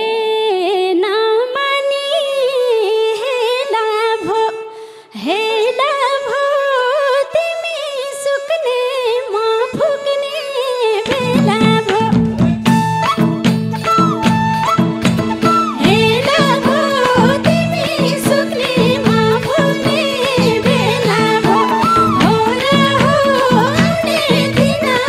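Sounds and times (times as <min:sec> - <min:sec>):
woman singing folk verse: 0:00.0 - 0:12.8, 0:15.2 - 0:25.0.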